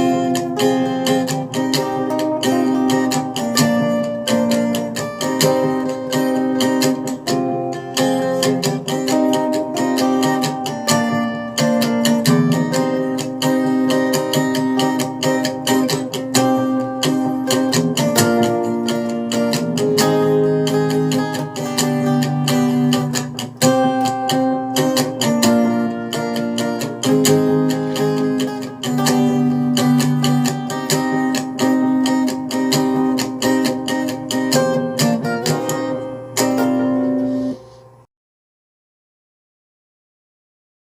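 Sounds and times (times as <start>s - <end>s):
acoustic guitar playing: 0.0s - 38.1s.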